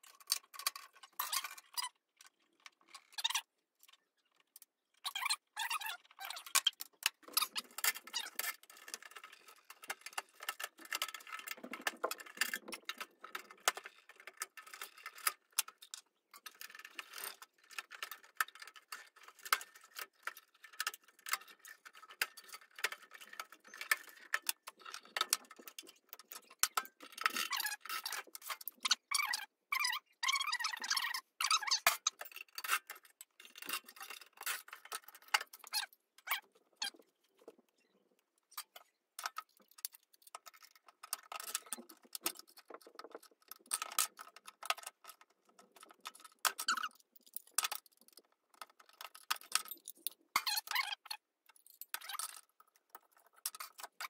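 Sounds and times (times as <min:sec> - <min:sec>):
screws and metal parts clicking: 0:00.0 - 0:37.5, 0:38.4 - 0:54.0.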